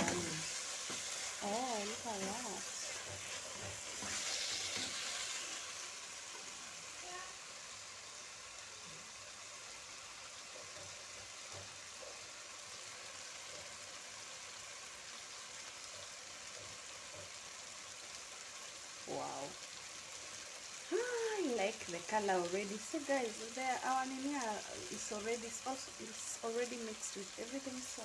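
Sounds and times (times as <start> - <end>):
onions sizzling in a pot: 0.0 - 28.0.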